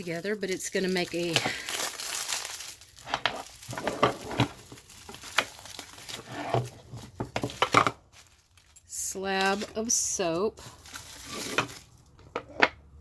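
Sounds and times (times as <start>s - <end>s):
packaging rustling: 0.0s - 12.3s.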